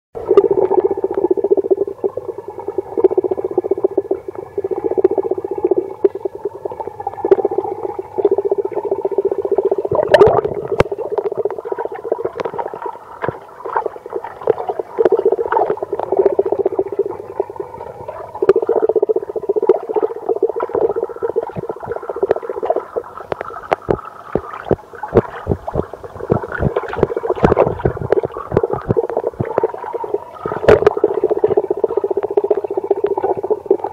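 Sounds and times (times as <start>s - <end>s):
clicks and pops underwater: 0.2s - 33.9s
muffled underwater hum: 0.2s - 33.9s.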